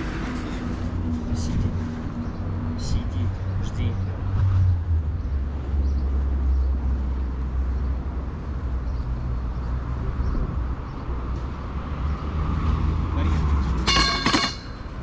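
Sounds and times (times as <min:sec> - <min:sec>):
engine hum: 0:00.0 - 0:15.0
road traffic rumble: 0:00.0 - 0:15.0.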